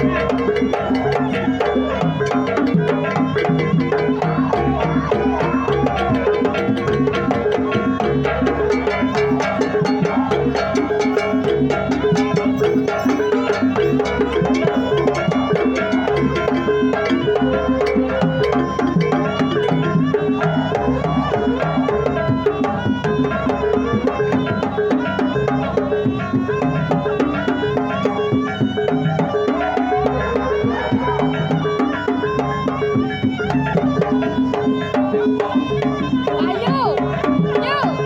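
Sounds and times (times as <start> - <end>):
dance music with drums and percussion: 0.0 - 38.0.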